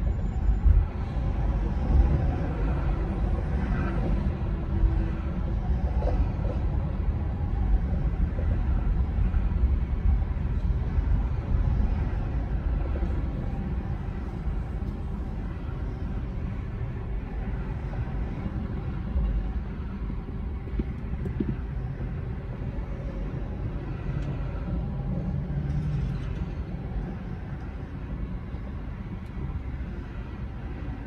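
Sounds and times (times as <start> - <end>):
car engine and road noise from inside: 0.0 - 31.0.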